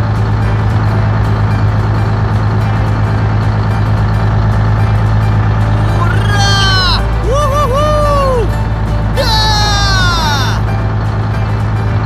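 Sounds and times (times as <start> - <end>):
background music: 0.0 - 12.0
excavator engine humming: 0.0 - 12.0.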